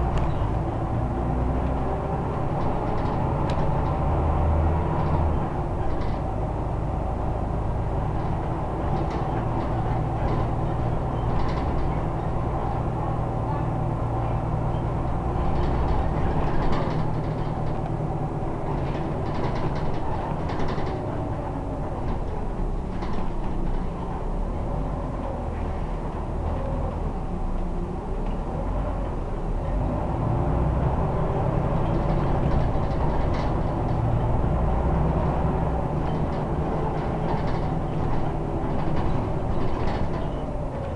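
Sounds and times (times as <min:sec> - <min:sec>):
interior clicks and rattles: 0:00.0 - 0:28.5, 0:31.0 - 0:40.9
bus engine drone: 0:00.0 - 0:40.9.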